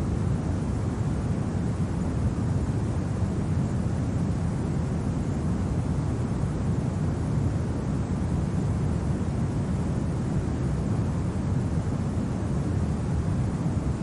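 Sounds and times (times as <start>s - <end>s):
low rumbling wind: 0.0s - 14.0s.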